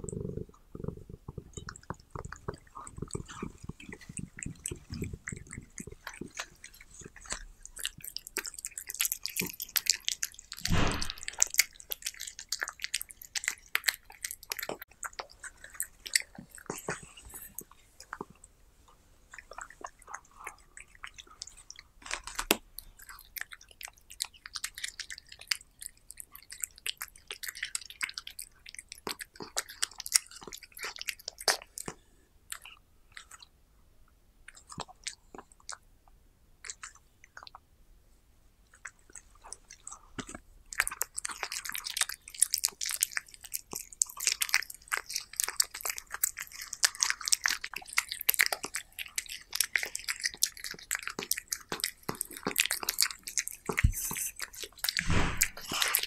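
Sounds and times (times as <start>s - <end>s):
cat chewing crackling seaweed: 0.1s - 33.5s, 38.7s - 56.0s.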